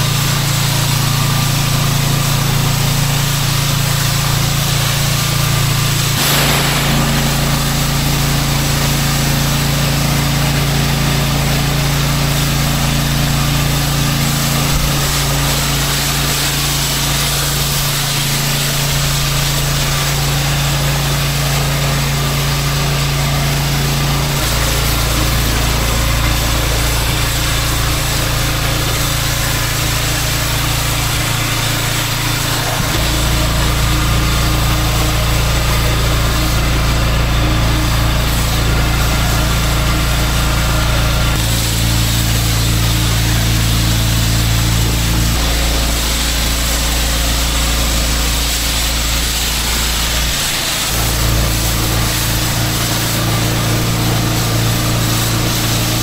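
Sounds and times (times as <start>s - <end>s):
high-pressure water spraying: 0.0s - 56.0s
pressure washer engine running: 0.0s - 56.0s.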